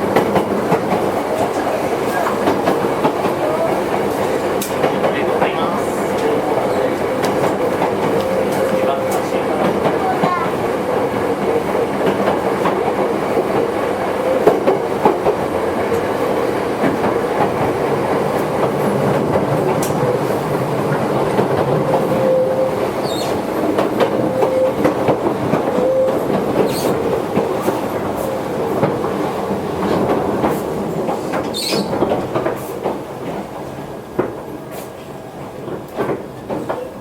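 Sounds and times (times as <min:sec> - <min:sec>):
train rumbling inside car: 0:00.0 - 0:37.0
wheels clacking over rail joints: 0:00.0 - 0:37.0.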